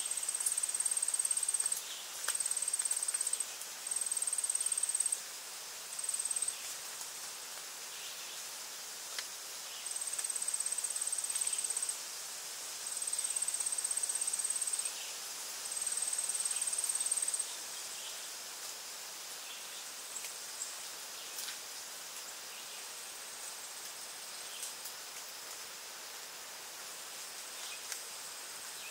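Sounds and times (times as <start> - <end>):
high-pitched insect trill: 0.0 - 6.8, 7.9 - 28.9
steady outdoor hiss: 0.0 - 28.9.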